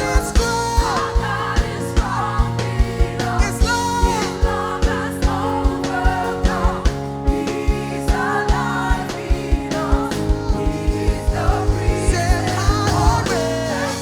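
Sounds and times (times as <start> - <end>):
kick drum beat: 0.0 - 13.5
keyboard chords: 0.0 - 14.0.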